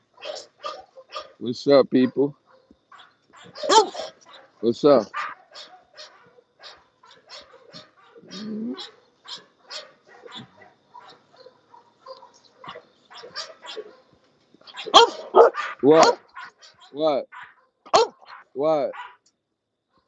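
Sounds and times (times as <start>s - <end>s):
puppies barking and whining: 0.2s - 1.4s, 2.0s - 19.2s.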